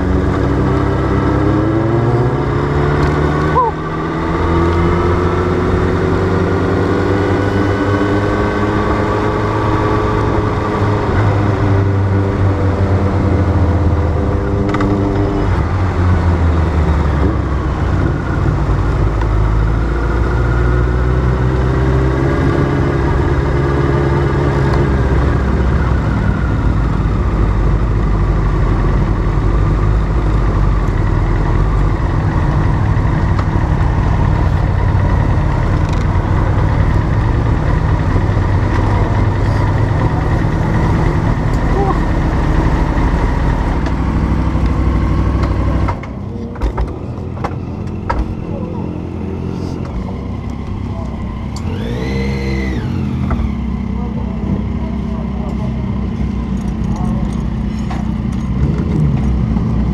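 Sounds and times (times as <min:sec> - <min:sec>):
motorcycle engine at low speed: 0:00.0 - 0:59.9.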